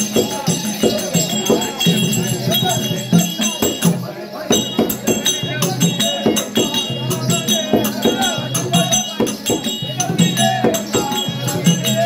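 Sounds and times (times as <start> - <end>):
drum strokes: 0.0 - 12.0
jingling ankle bells: 0.0 - 12.0.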